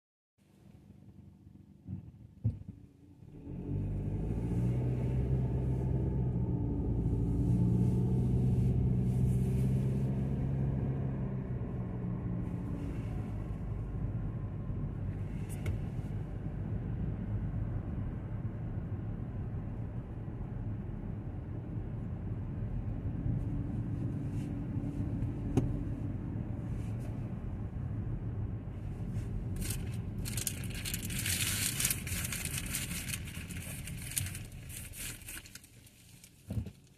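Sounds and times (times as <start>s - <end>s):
car engine accelerating: 3.2s - 35.8s.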